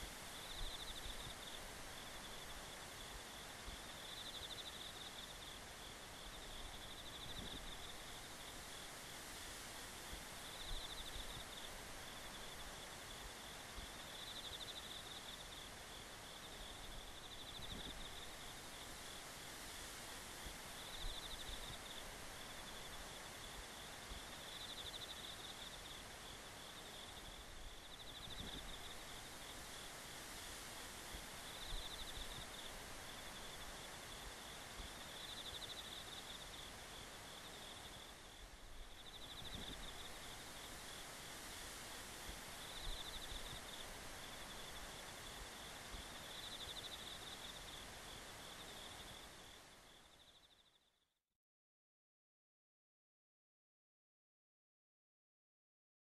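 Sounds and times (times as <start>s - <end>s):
insects trilling: 0.0s - 8.8s, 10.0s - 19.2s, 20.4s - 50.9s
faint outdoor background noise: 0.0s - 51.2s.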